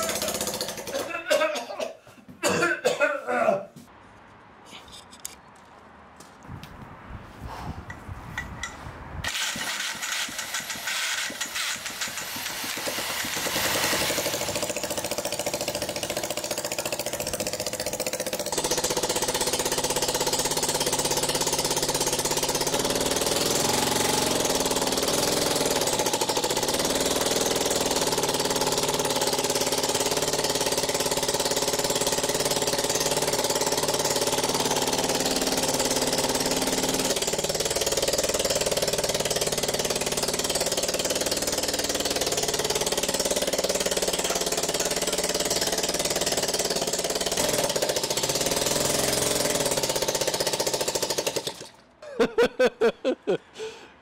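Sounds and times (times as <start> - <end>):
small engine sputtering and running: 0.0 - 1.2, 9.2 - 51.9.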